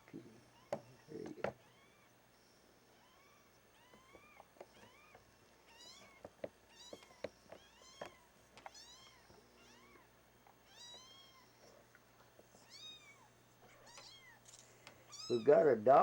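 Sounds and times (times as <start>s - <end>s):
kittens mewing: 0.0s - 2.2s, 2.9s - 11.8s, 12.6s - 15.7s.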